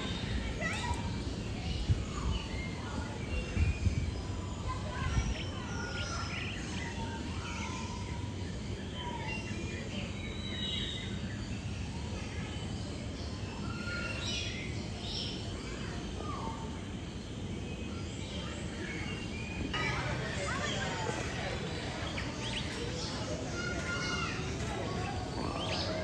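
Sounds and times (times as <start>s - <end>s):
birds chirping and whistling: 0.0s - 16.8s, 17.8s - 26.0s.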